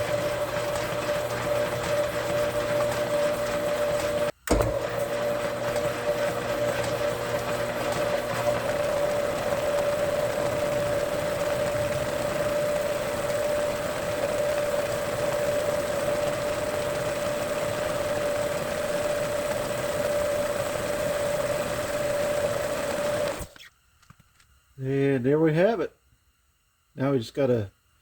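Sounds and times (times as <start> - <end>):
metal lathe whining: 0.0 - 23.6.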